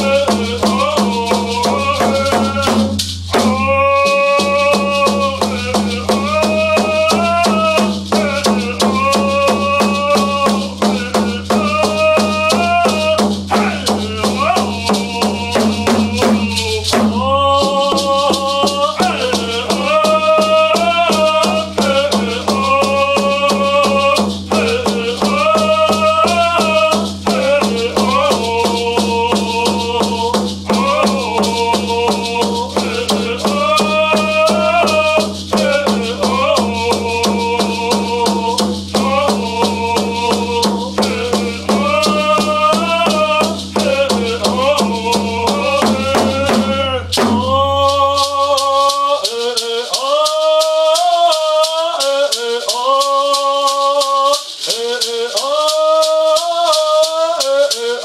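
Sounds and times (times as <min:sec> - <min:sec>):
hand drum beat: 0:00.0 - 0:58.0
men singing: 0:00.0 - 0:58.0
rattle shaking: 0:00.0 - 0:58.0.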